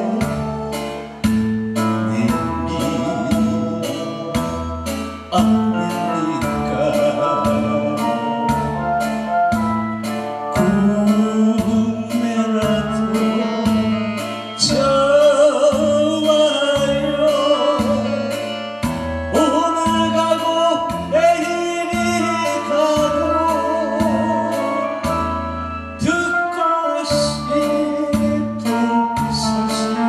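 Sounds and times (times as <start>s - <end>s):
man singing into microphone: 0.0s - 9.3s, 10.5s - 25.4s, 26.0s - 30.0s
amplified backing music: 0.0s - 30.0s.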